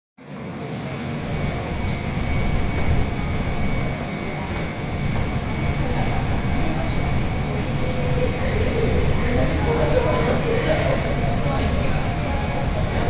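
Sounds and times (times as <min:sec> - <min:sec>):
faint high whine: 0:00.2 - 0:13.0.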